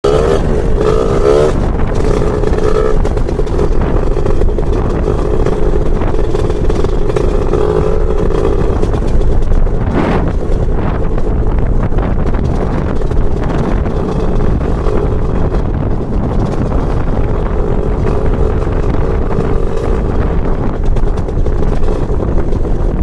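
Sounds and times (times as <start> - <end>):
scooter engine running: 0.0 - 23.0.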